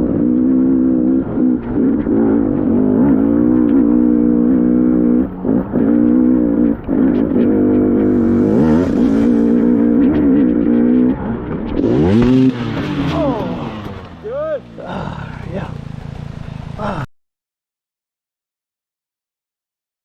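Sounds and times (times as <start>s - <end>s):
dirt bike engine running hard: 0.0s - 17.1s.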